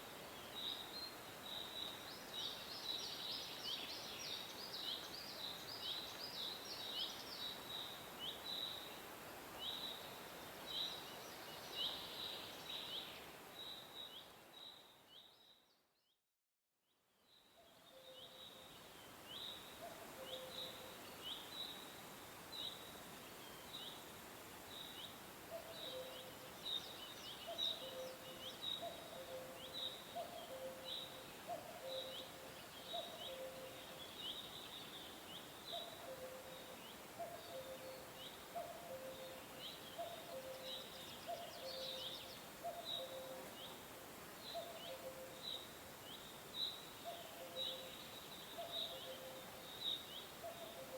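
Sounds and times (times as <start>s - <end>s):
steady outdoor hiss: 0.0s - 16.0s, 16.9s - 50.9s.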